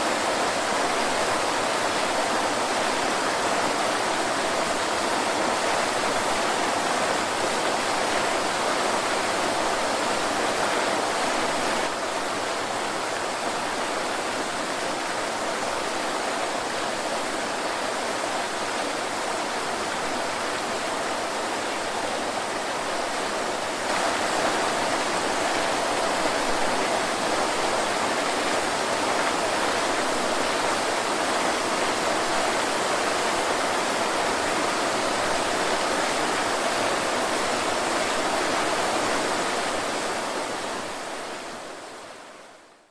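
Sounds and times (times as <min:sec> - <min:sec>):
waterfall rushing: 0:00.0 - 0:42.8.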